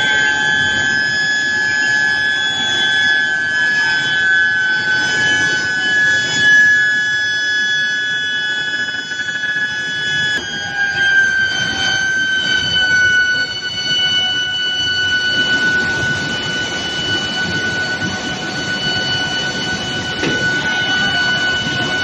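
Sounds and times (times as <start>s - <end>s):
furnace high-pitched whine: 0.0s - 22.0s
mill machinery noise: 0.0s - 22.0s.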